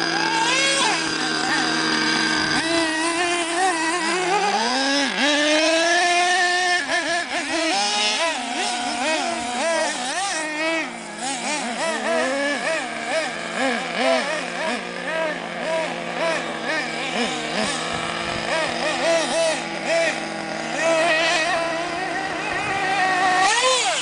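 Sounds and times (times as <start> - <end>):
engine idling: 0.0 - 24.0
small engines revving hard: 0.0 - 24.0.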